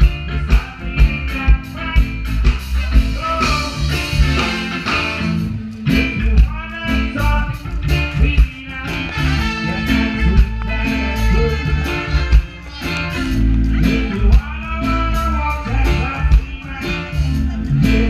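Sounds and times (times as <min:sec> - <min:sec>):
man singing into microphone: 0:00.0 - 0:05.4, 0:06.0 - 0:18.0
reggae band playing: 0:00.0 - 0:18.0.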